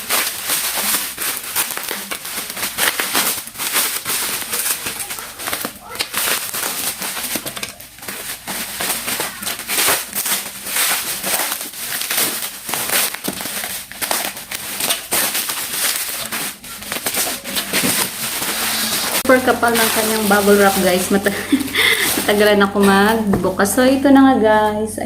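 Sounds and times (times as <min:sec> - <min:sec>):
bubble wrap crinkling and snapping: 0:00.0 - 0:23.9.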